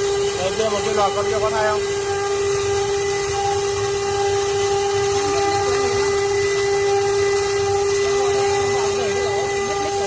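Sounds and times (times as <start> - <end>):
machine spindle whine: 0.0 - 10.0.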